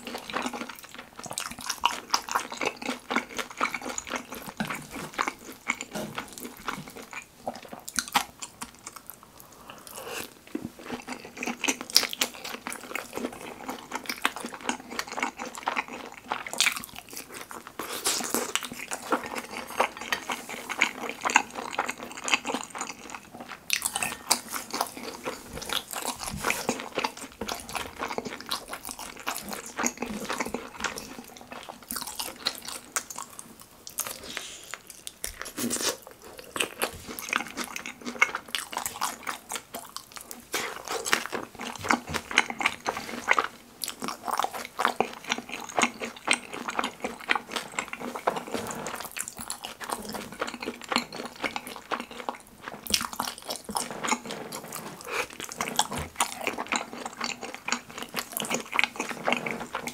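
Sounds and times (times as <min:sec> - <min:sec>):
chewing and biting food: 0:00.0 - 0:59.9.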